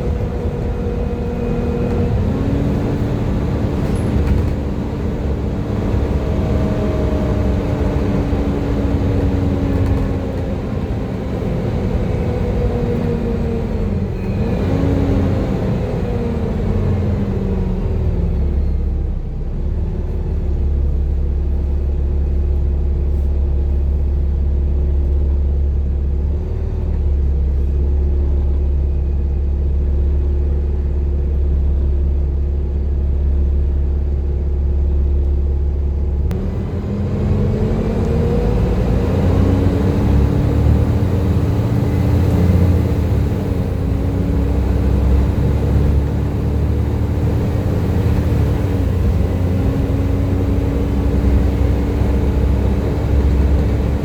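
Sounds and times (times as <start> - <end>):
bus driveline whine: 0.0 - 54.0
deep engine rumble: 0.0 - 54.0.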